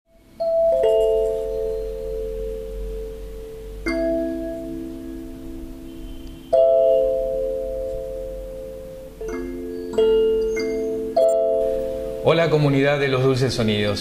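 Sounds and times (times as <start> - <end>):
thumb piano notes ringing: 0.1 - 13.9.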